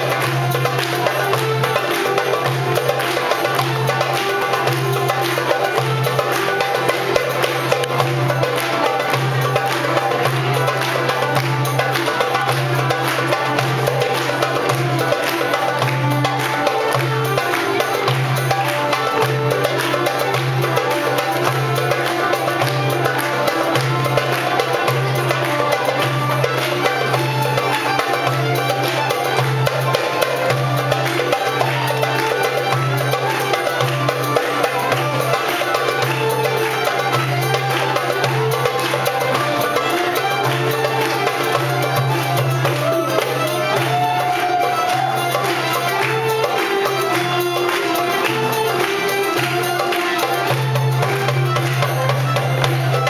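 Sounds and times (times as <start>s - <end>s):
folk dance music ensemble: 0.0s - 53.0s.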